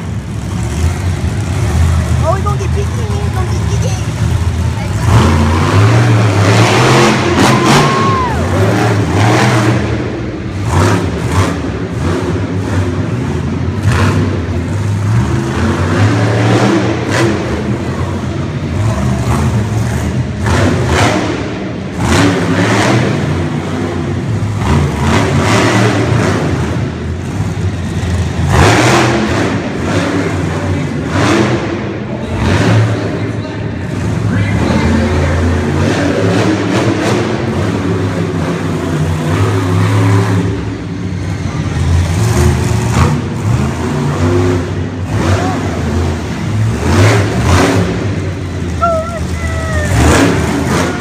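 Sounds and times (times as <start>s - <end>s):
truck engine revving: 0.0s - 51.0s.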